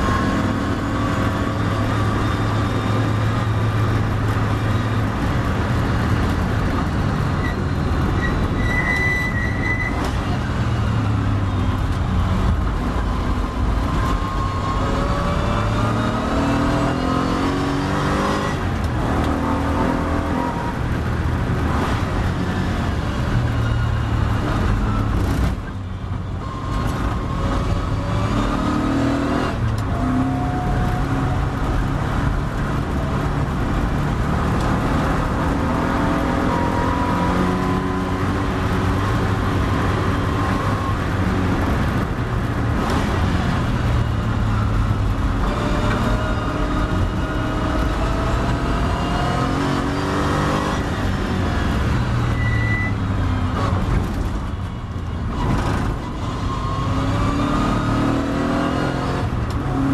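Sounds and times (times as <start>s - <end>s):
race car engine accelerating and braking: 0.0s - 59.9s.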